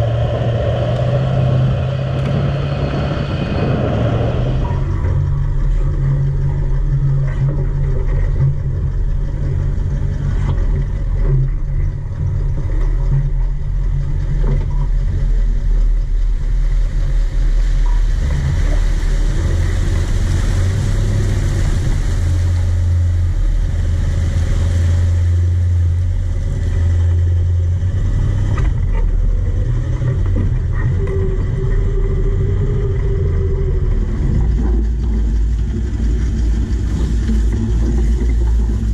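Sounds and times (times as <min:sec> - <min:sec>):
rushing noise: 0:00.0 - 0:12.6, 0:13.4 - 0:38.9
vehicle engine labouring: 0:00.0 - 0:38.9.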